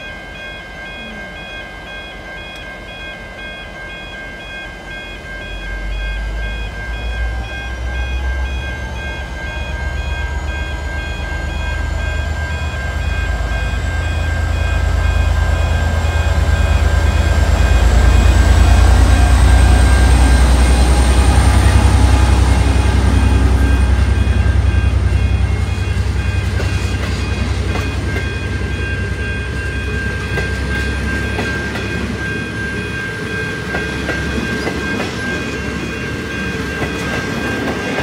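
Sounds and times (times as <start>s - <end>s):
high rising whine: 0.0s - 37.5s
beeping warning tone: 0.0s - 38.0s
locomotive engine rumble: 0.0s - 38.0s.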